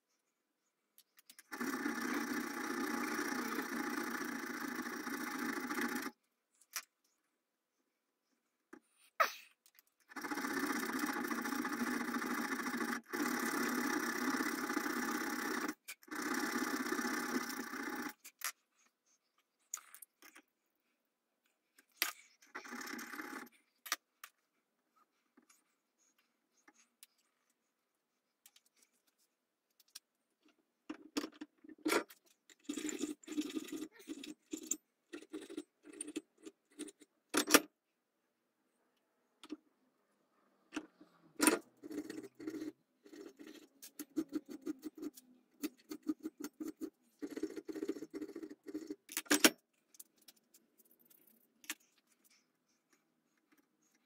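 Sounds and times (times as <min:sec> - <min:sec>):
small metallic clicks and scrapes: 0:00.9 - 0:07.2, 0:08.7 - 0:20.6, 0:21.4 - 0:27.6, 0:28.4 - 0:37.7, 0:40.7 - 0:54.0.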